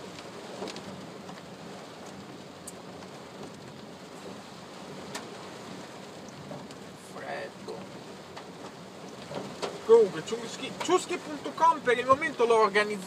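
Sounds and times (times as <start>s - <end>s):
rain on car roof: 0.0s - 13.0s
raindrop ticks: 0.0s - 13.0s.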